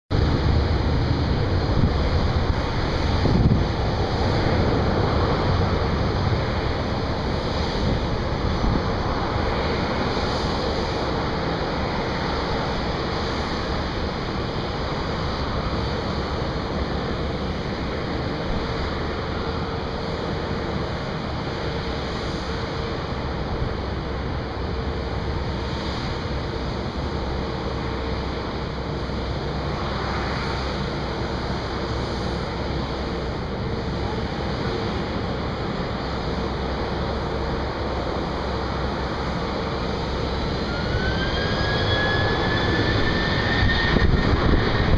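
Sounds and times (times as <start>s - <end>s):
distant jet engines running: 0.1s - 44.9s
wind on microphone: 0.1s - 44.9s.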